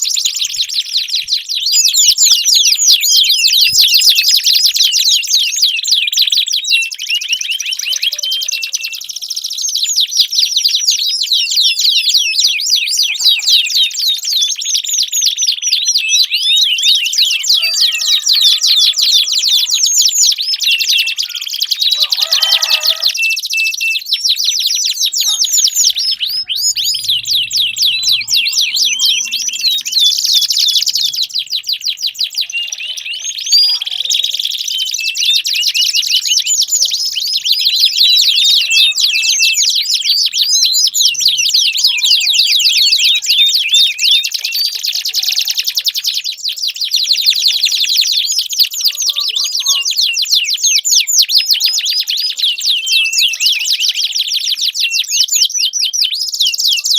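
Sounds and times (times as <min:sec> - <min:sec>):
canaries singing trills: 0:00.0 - 0:56.9.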